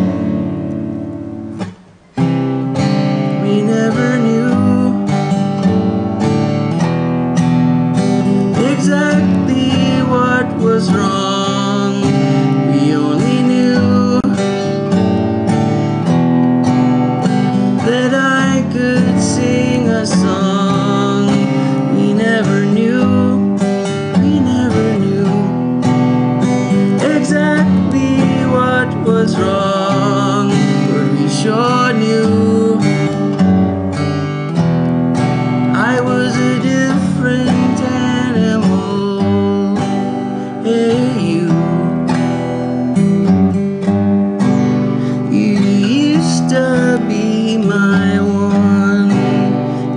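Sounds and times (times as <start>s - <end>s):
acoustic guitar: 0.0s - 49.9s
man singing: 2.7s - 5.7s, 8.0s - 15.1s, 16.0s - 33.5s, 35.6s - 43.1s, 44.9s - 49.9s.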